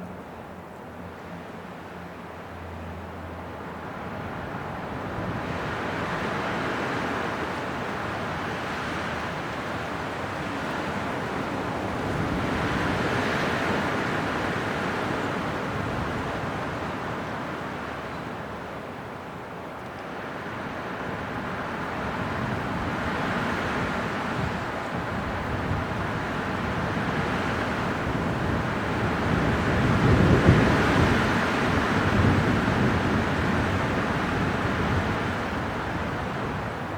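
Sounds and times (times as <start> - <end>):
wind blowing in gusts: 3.5 - 36.9.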